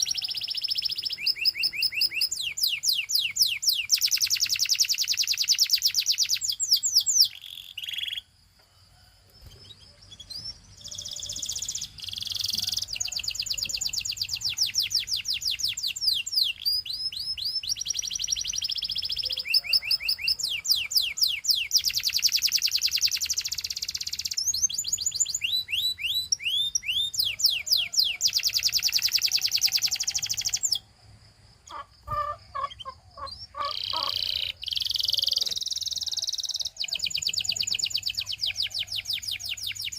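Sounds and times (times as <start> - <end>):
canary singing trills: 0.0 - 8.4, 9.4 - 30.9, 31.6 - 39.9.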